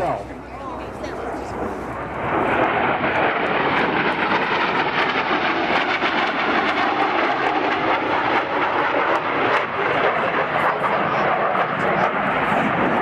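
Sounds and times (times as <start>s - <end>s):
jet aircraft flyby: 0.0s - 13.0s.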